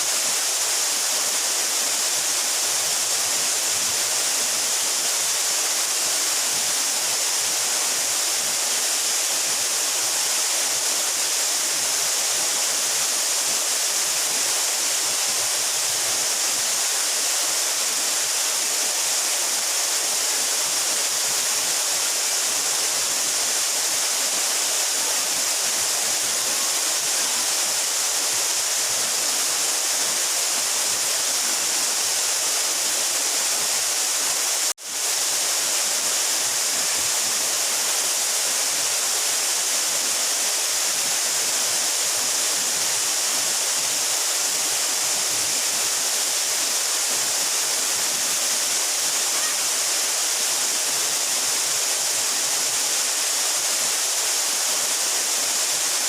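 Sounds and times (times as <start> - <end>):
waterfall rushing onto rocks: 0.0 - 56.0.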